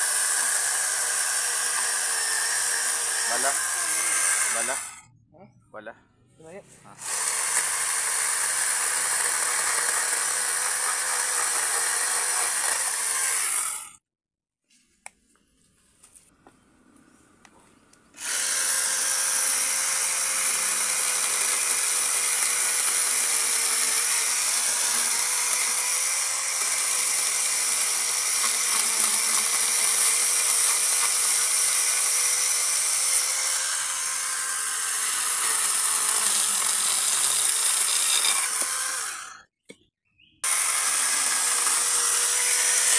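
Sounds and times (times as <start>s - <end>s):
chainsaw whining cutting bamboo: 0.0s - 5.0s, 7.0s - 14.0s, 18.2s - 39.5s, 40.4s - 42.9s.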